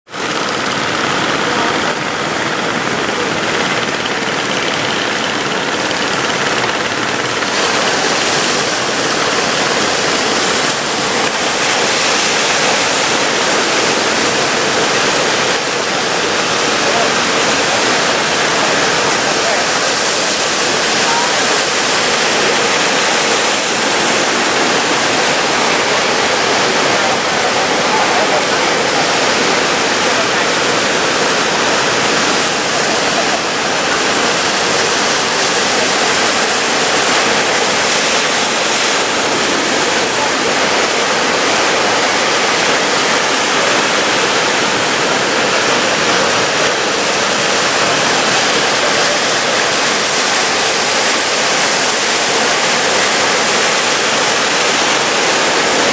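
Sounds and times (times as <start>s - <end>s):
ocean waves breaking: 0.1s - 55.9s.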